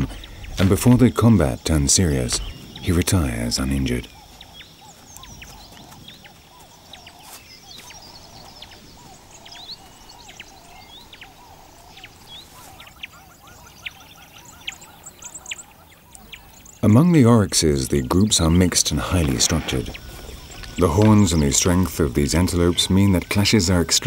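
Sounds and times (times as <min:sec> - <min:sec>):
birds chirping and whistling: 0:00.0 - 0:24.0.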